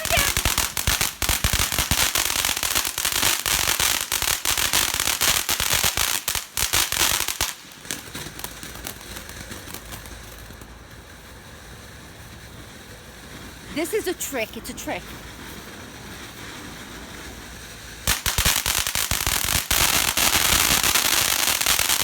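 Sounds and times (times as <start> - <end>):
firework crackling: 0.0 - 22.0.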